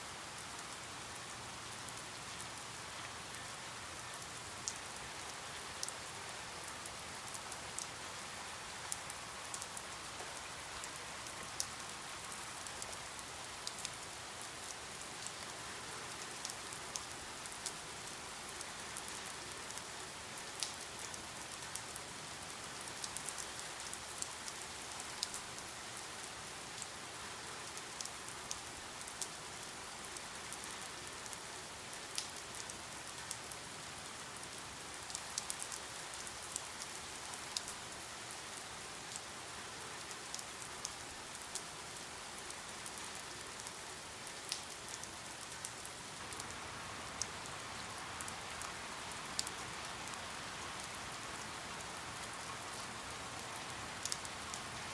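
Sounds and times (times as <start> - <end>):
steady rain hiss: 0.0 - 54.9
rain drops ticking on hard surface: 0.3 - 54.9.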